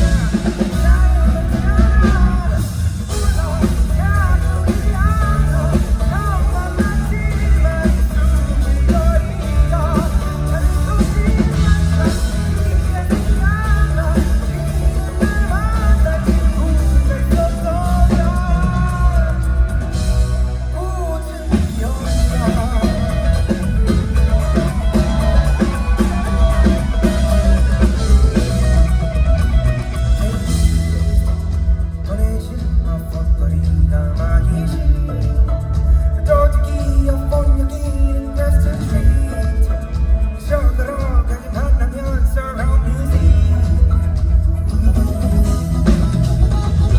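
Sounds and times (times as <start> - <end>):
male singer: 0.0 - 46.9
rock band playing: 0.0 - 46.9.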